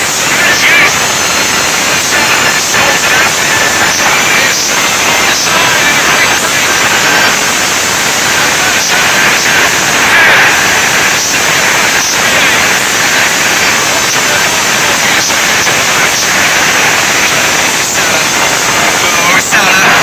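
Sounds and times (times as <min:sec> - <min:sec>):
faint voice: 0:00.0 - 0:20.0
stadium crowd noise: 0:00.0 - 0:20.0.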